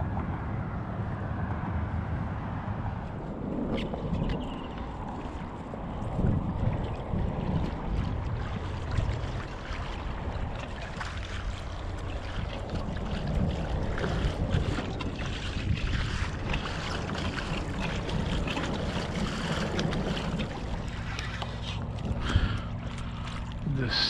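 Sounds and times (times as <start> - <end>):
wind buffeting microphone: 0.0 - 24.0
water lapping against kayak hull: 3.3 - 24.0.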